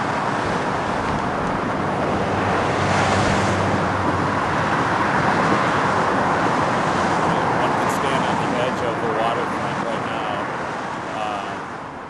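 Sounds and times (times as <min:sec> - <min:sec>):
roar of heavy freeway traffic: 0:00.0 - 0:12.0
vehicle engine hum: 0:00.0 - 0:12.0.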